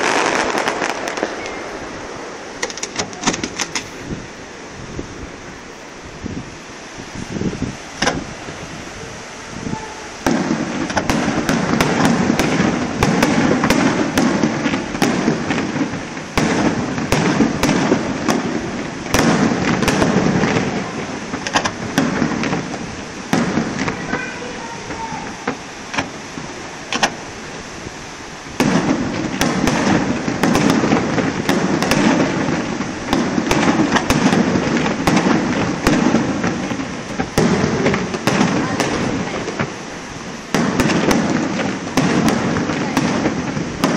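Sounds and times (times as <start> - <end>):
fireworks crackling and banging: 0.0 - 43.9.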